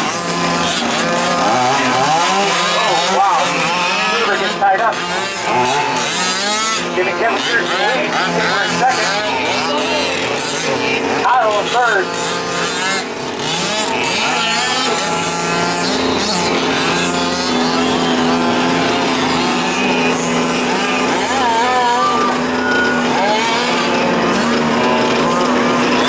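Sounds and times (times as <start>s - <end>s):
small two-stroke engines revving: 0.0s - 26.0s.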